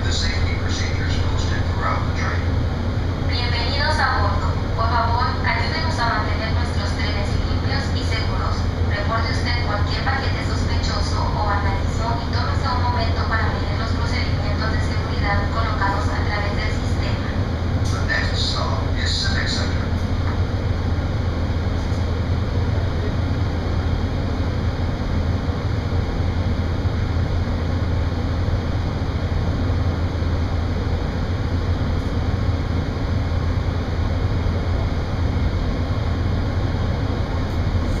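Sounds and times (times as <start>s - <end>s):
subway train rumble: 0.0s - 38.0s.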